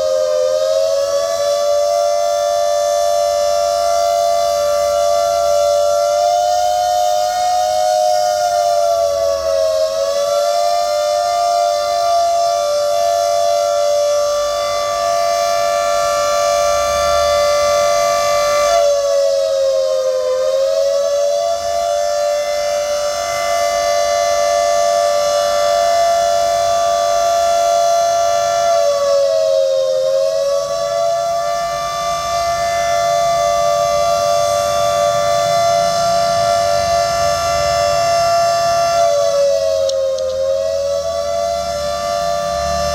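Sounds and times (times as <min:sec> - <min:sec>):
emergency siren steady tone: 0:00.0 - 0:42.9.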